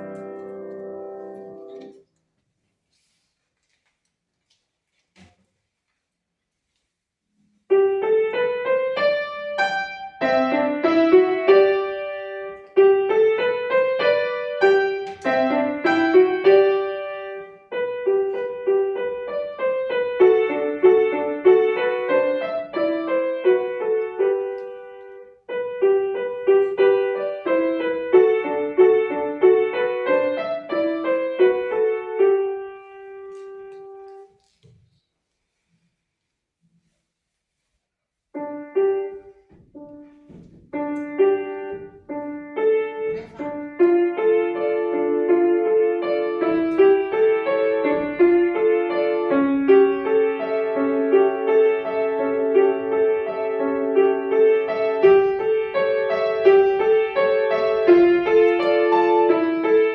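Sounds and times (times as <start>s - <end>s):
piano melody: 0.0s - 2.0s, 7.7s - 34.3s, 38.3s - 59.9s.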